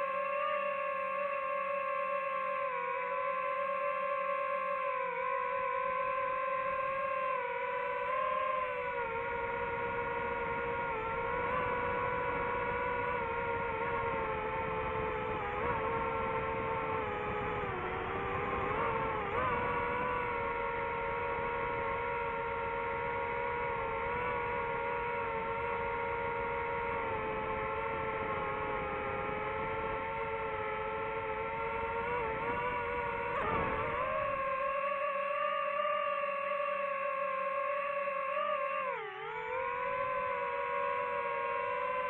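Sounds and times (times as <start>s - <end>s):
drone propellers whining: 0.0s - 42.0s.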